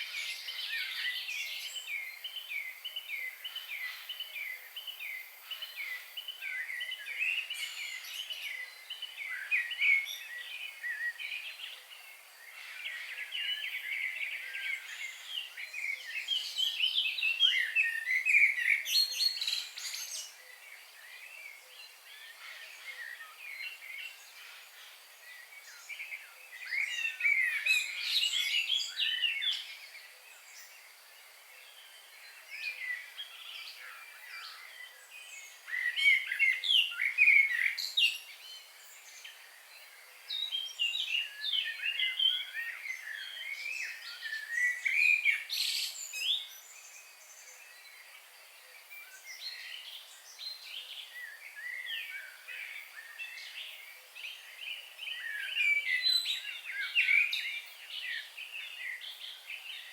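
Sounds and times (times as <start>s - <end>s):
birds singing and chirping: 0.0s - 30.9s, 31.6s - 59.9s
faint background hiss: 0.0s - 59.9s.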